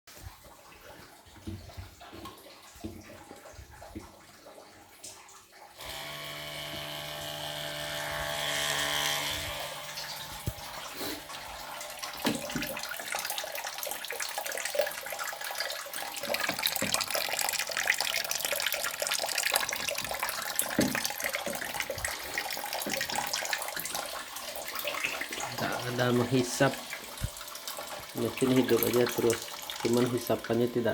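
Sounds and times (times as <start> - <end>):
water pump motor humming: 5.8 - 30.9.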